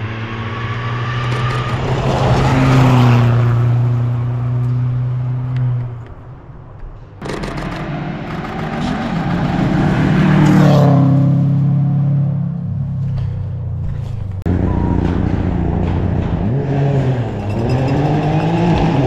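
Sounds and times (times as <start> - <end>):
rally car engines passing: 0.0 - 6.4, 7.0 - 19.0.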